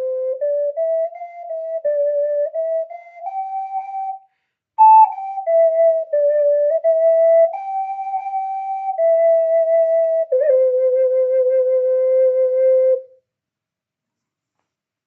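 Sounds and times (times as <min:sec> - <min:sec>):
breathy flute-like tone: 0:00.0 - 0:13.1.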